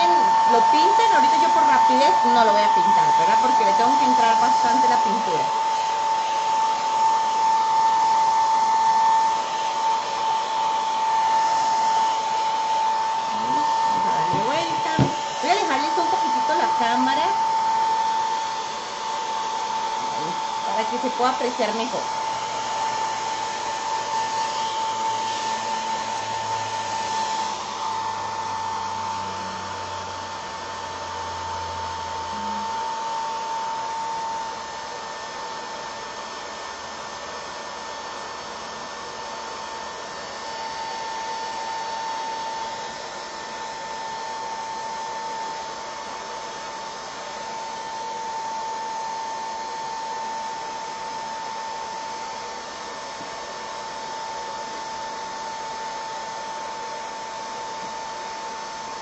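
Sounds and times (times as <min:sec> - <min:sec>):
hair dryer blowing: 0:00.0 - 0:59.0.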